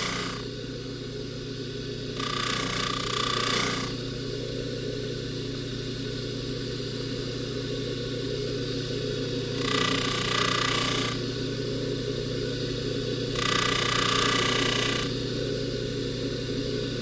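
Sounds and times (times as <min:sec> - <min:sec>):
polishing buffer motor humming: 0:00.0 - 0:17.0.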